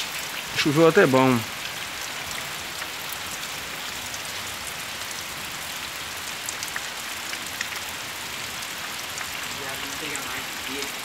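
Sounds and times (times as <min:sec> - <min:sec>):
rain falling on puddles: 0:00.0 - 0:11.0.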